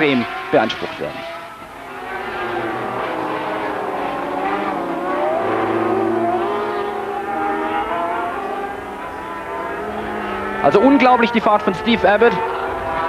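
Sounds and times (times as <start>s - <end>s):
racing engines passing: 0.0s - 13.0s.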